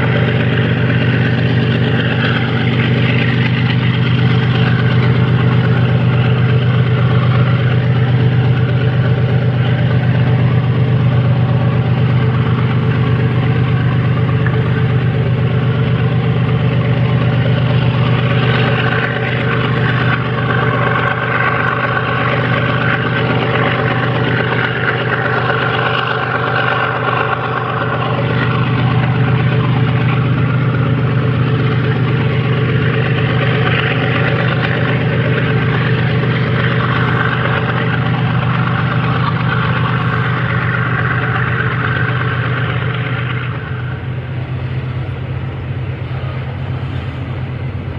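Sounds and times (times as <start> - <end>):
locomotive engine drone: 0.0 - 47.9.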